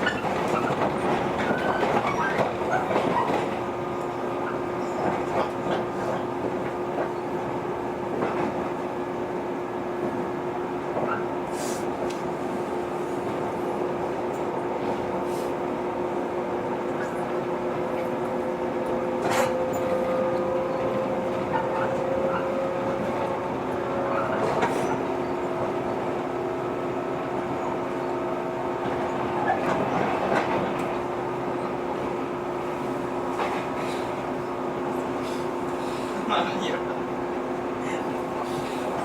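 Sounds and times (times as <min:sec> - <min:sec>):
train hum and rumble: 0:00.0 - 0:39.0.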